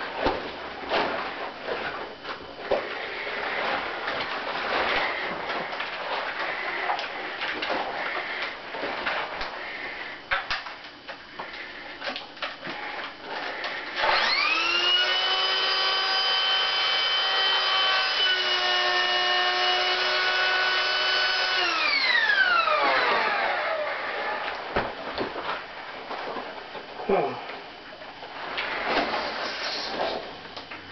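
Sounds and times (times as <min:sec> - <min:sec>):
electric air pump whine: 0:00.1 - 0:10.4, 0:11.4 - 0:25.7, 0:28.4 - 0:30.6.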